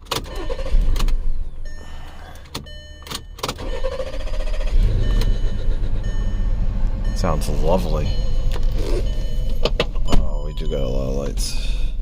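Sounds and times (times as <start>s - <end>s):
car engine cranking and running rough: 0.0s - 12.0s.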